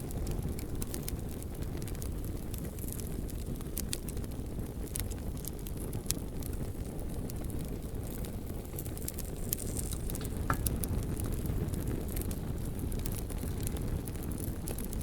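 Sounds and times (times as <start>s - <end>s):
bonfire low rumble: 0.0s - 15.0s
fire crackling and popping: 0.0s - 15.0s.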